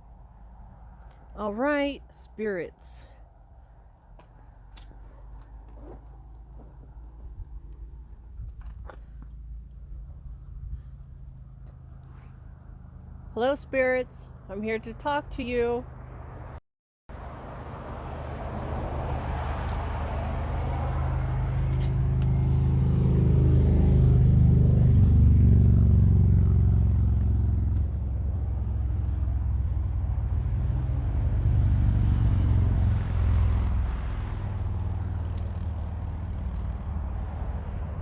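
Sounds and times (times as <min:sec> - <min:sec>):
vehicle engine rumbling: 0:02.9 - 0:13.4, 0:14.2 - 0:38.0.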